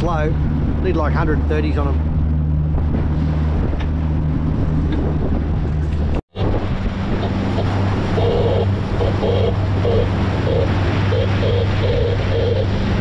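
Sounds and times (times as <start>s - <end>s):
outboard motor running: 0.0s - 13.0s
wind and water rushing: 0.0s - 13.0s.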